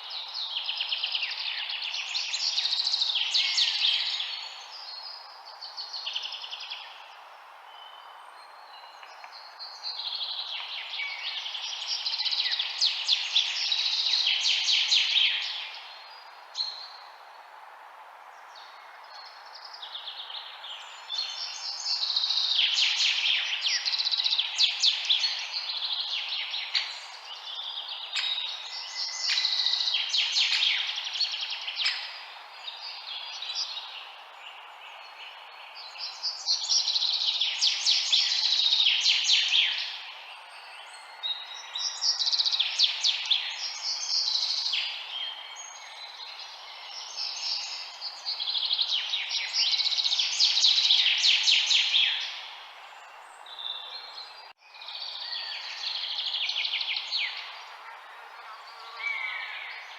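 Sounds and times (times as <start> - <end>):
birds chirping and twittering: 0.0 - 17.2, 18.4 - 59.9
steady background hiss: 0.0 - 59.9.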